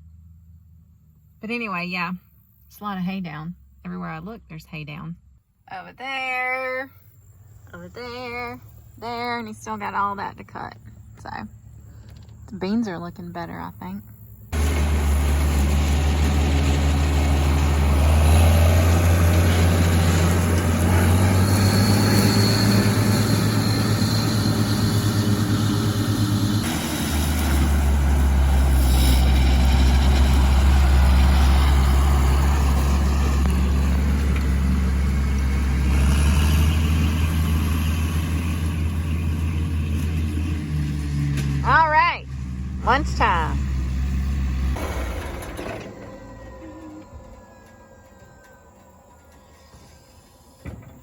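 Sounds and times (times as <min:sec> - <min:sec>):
vehicle engine rumble: 0:00.0 - 0:51.0.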